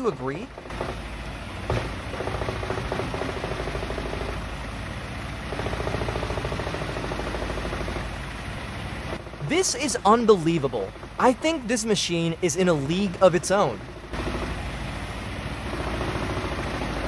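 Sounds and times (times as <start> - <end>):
log grinder engine pulsing: 0.0 - 17.0.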